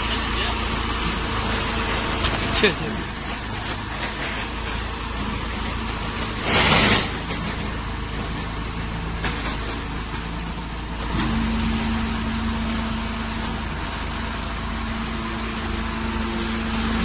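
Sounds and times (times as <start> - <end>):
higher-pitched machine hum: 0.0 - 7.4, 10.6 - 17.0.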